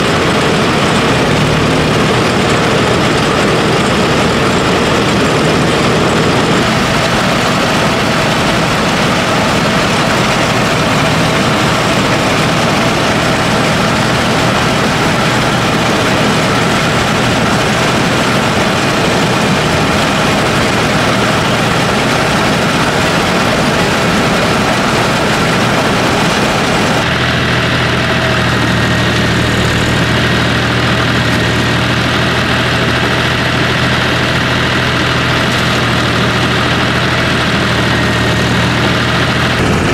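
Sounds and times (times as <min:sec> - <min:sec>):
combine harvester engine running: 0:00.0 - 0:39.9
strong low hum: 0:00.0 - 0:39.9.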